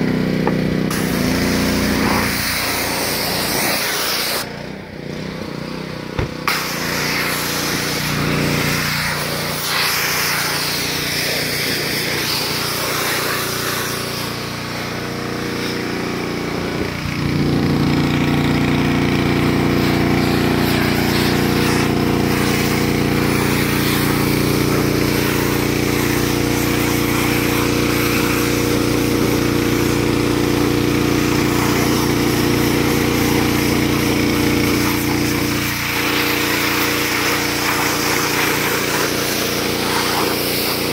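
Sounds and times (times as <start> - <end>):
pressure washer engine: 0.0 - 40.9
spray wand hissing: 0.9 - 4.5, 6.4 - 17.0, 18.9 - 40.9.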